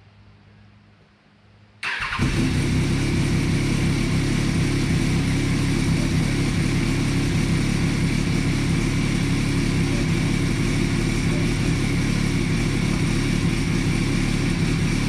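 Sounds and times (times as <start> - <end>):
motorcycle engine idling: 1.8 - 15.0.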